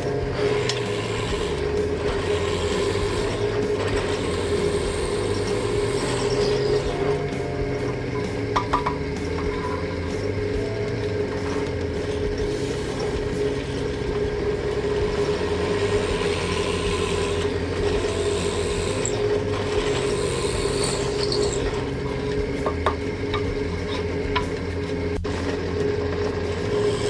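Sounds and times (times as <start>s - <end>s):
scroll saw running: 0.0s - 27.0s.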